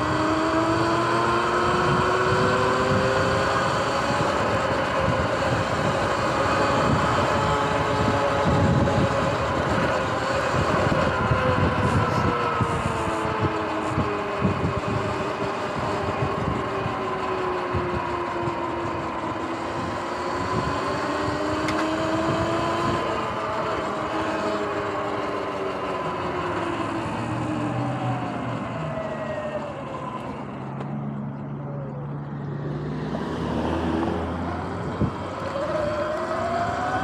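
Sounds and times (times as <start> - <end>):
electric motor whine: 0.0 - 37.0
road noise: 0.0 - 37.0
wind buffeting: 0.0 - 37.0.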